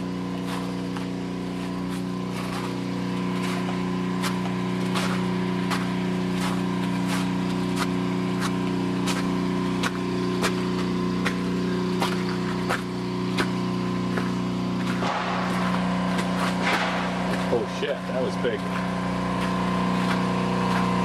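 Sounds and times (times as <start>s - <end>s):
droning machine hum: 0.0s - 21.0s
footsteps crunching on ice: 0.0s - 21.0s.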